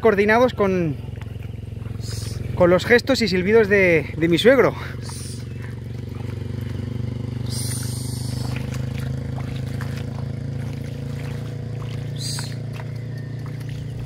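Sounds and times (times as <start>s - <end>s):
small engine humming: 0.0s - 14.0s.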